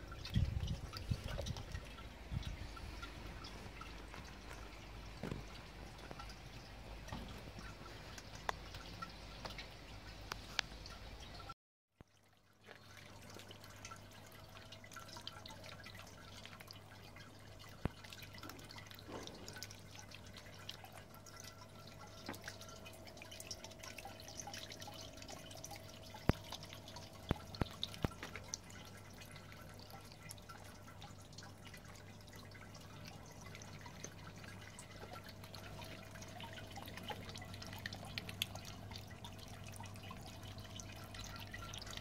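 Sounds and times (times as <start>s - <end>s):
low steady hum: 0.0s - 11.6s, 12.2s - 42.0s
fountain water trickling and dripping: 0.0s - 42.0s.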